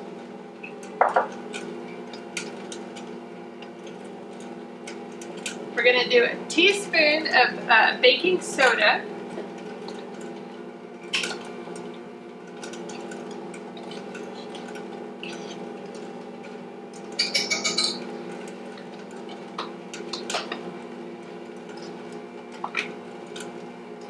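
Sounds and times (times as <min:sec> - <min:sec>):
steady low hum: 0:00.4 - 0:24.0.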